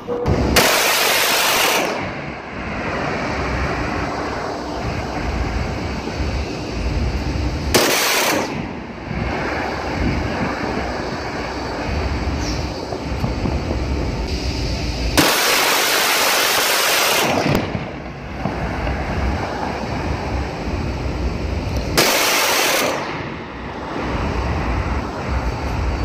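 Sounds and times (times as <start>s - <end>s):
rumble of wind and sea: 0.0s - 26.0s.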